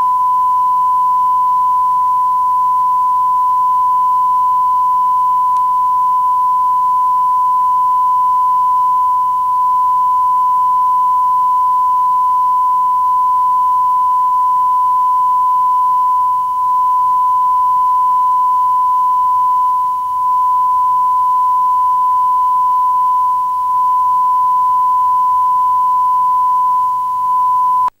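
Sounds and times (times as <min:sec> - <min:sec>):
steady sine tone: 0:00.0 - 0:28.0.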